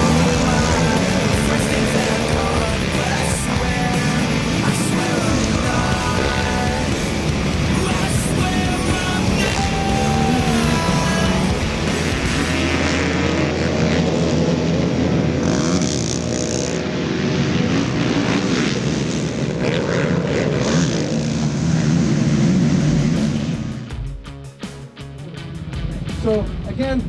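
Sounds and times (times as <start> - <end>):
racing quad engines revving: 0.0 - 24.1.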